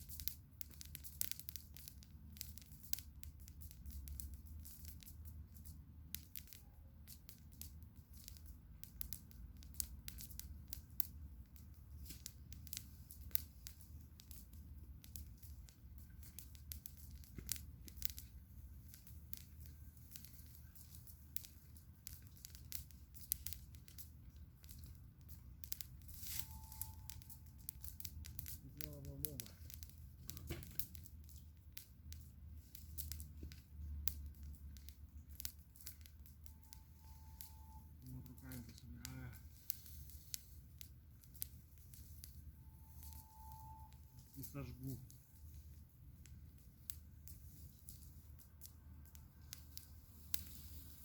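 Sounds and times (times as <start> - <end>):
campfire crackling and popping: 0.0 - 51.0
low steady rumble: 1.8 - 51.0.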